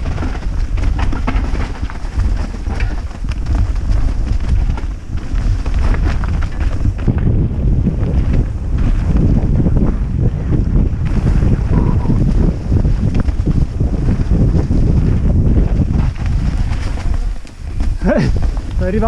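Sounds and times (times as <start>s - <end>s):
bike rattling over stones: 0.0s - 19.0s
wind buffeting microphone: 0.0s - 19.0s.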